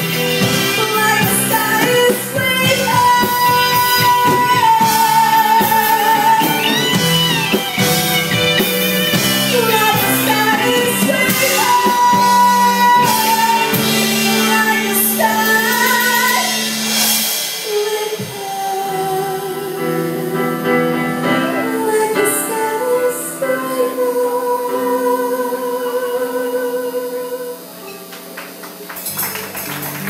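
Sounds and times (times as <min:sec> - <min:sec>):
electric guitar: 0:00.0 - 0:30.0
keyboard: 0:00.0 - 0:30.0
woman singing into microphone: 0:00.4 - 0:16.9, 0:17.6 - 0:27.8.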